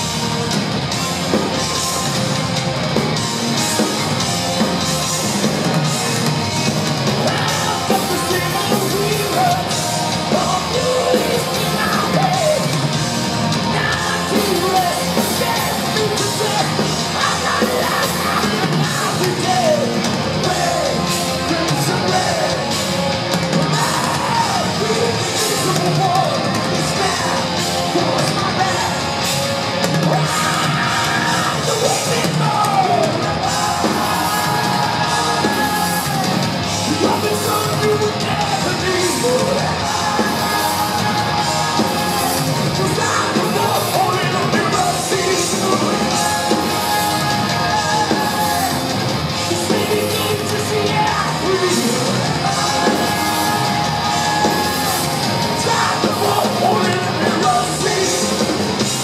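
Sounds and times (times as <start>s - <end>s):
distorted guitars: 0.0s - 59.0s
drum kit: 0.0s - 59.0s
shouted sung vocal: 7.2s - 22.8s, 23.6s - 29.3s, 30.0s - 59.0s.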